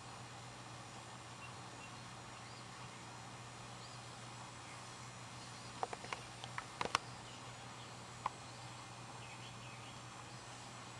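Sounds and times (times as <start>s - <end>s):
distant bird calls: 0.0s - 10.9s
low hum and hiss: 0.0s - 10.9s.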